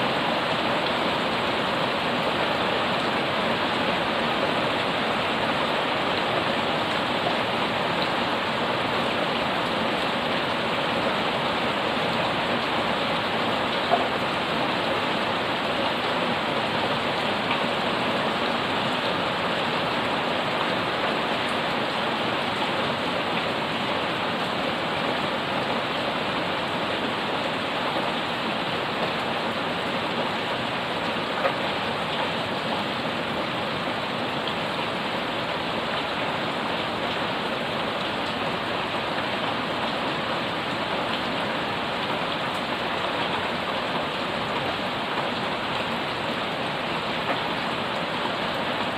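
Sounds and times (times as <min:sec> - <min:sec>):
heavy rain on leaves and pavement: 0:00.0 - 0:48.9.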